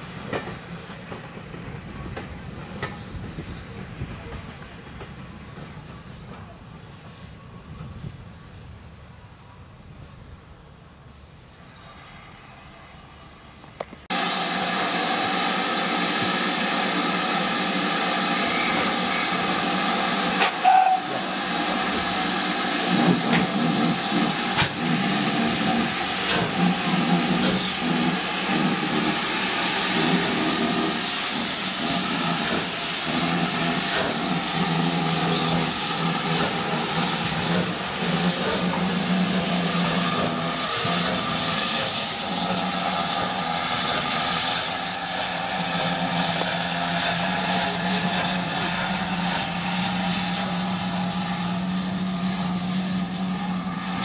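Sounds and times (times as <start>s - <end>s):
loud steady hiss: 5.2s - 54.0s.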